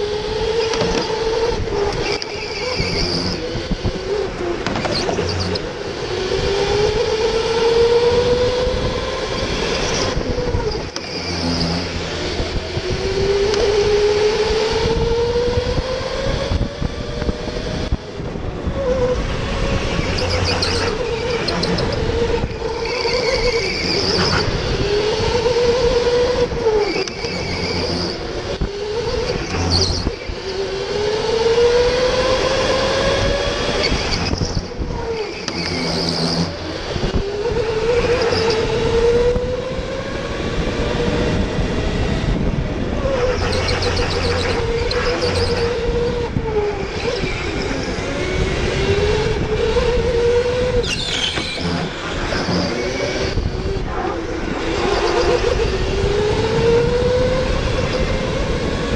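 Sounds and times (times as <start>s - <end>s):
electric go-kart motor whining: 0.0s - 58.9s.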